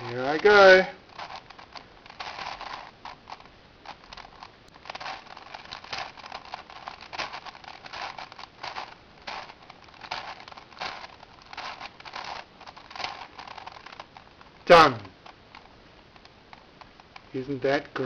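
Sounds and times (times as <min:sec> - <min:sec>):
puzzle cube clicking and scraping: 0:00.0 - 0:18.0.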